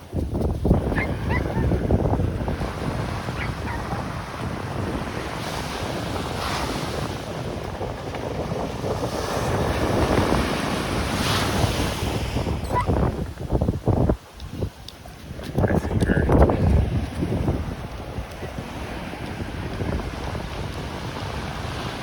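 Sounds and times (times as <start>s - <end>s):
surf on a beach: 0.0s - 22.0s
wind buffeting microphone: 0.0s - 22.0s.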